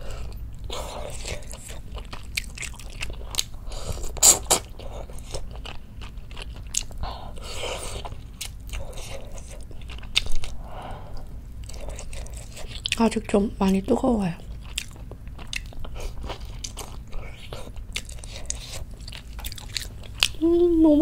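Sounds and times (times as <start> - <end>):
person chewing food: 0.0 - 20.4.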